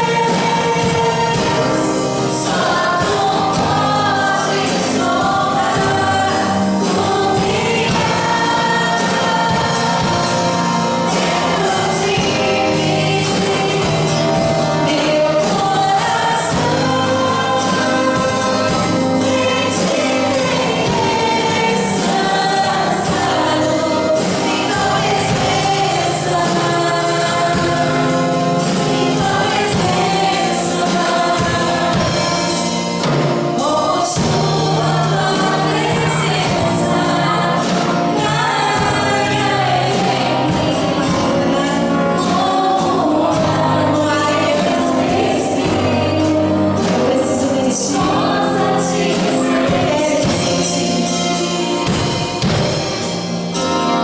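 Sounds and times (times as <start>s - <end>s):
band accompaniment with steady beat: 0.0s - 54.0s
choir singing gospel song: 0.0s - 54.0s.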